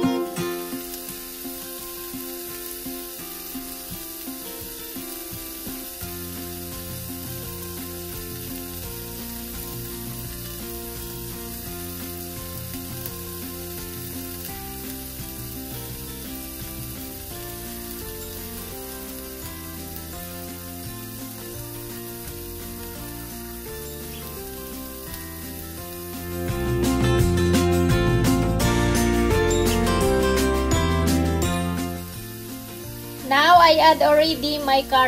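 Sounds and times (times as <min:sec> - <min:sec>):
background music: 0:00.0 - 0:35.0
chicken sizzling in a frying pan: 0:00.0 - 0:35.0.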